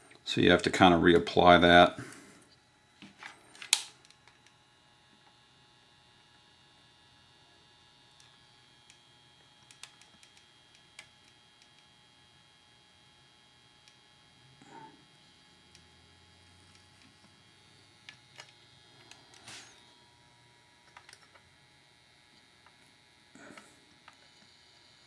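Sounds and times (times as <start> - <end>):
faint electrical hum: 0.0 - 25.0.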